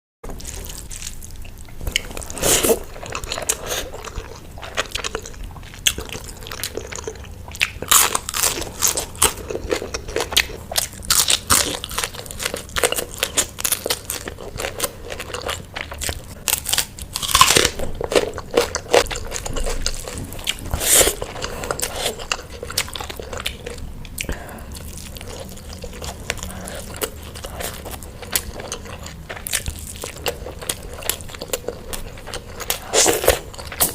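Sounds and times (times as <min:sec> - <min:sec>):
person crunching food: 0:00.3 - 0:33.9.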